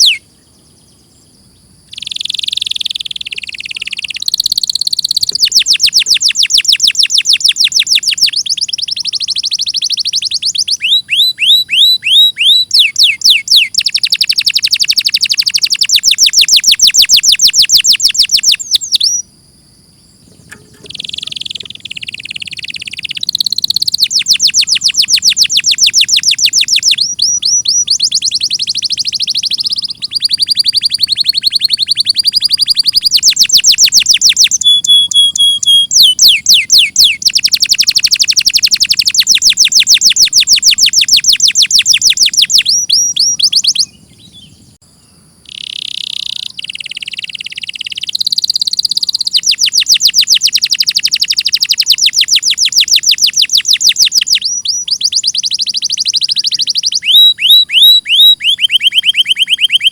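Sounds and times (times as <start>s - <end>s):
canary singing trills: 0.0s - 19.3s, 20.0s - 59.9s.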